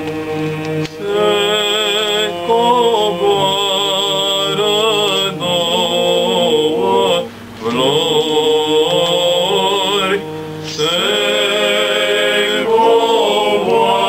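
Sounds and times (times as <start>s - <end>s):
male choir singing a cappella: 0.0s - 14.0s.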